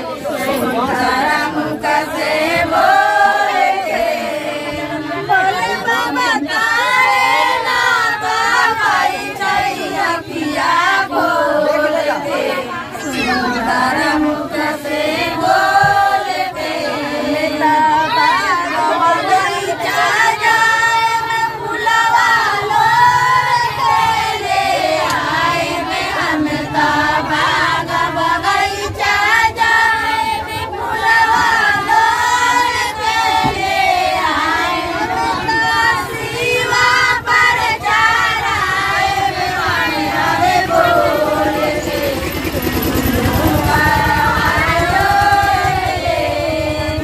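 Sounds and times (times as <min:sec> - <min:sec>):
women singing devotional song: 0:00.0 - 0:47.0.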